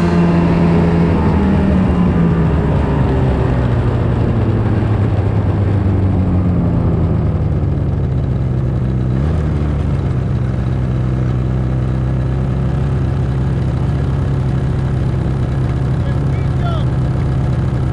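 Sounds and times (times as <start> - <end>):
snowmobile engine: 0.0 - 17.9.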